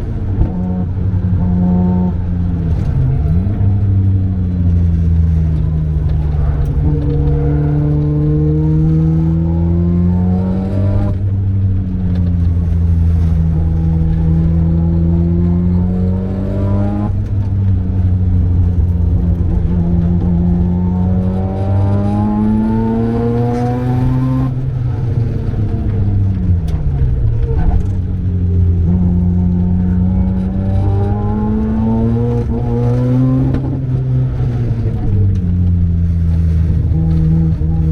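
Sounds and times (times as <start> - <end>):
rotary engine accelerating: 0.0 - 37.9.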